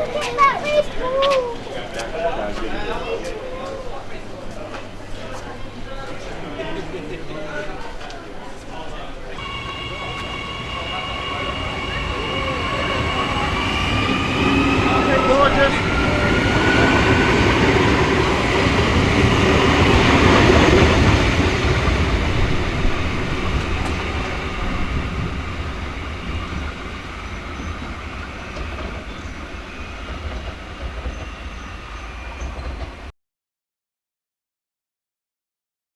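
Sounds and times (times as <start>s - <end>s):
train wheel and rail noise: 0.0s - 33.1s.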